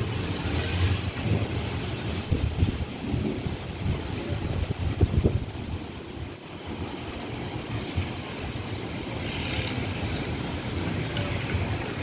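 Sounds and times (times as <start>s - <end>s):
wind buffeting microphone: 0.0s - 12.0s
wind gusting through trees: 0.0s - 12.0s.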